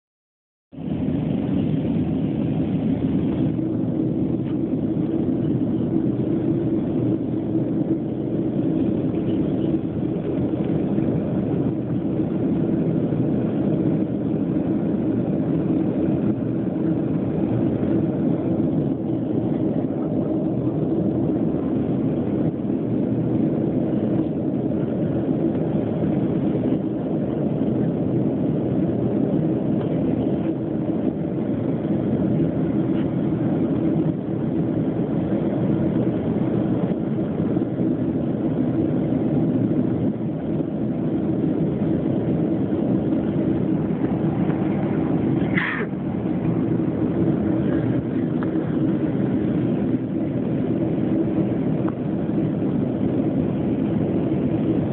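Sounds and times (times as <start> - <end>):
jet engine drone in cabin: 0.7 - 54.9.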